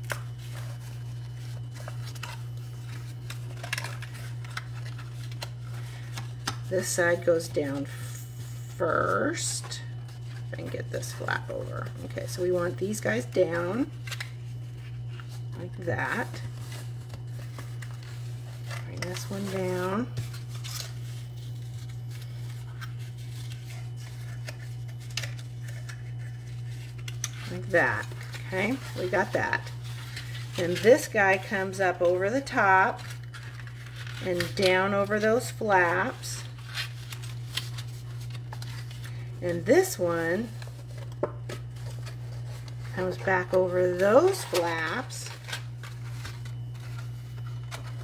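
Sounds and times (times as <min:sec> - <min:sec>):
card rustling and scraping: 0:00.0 - 0:48.0
steady low hum: 0:00.0 - 0:48.0.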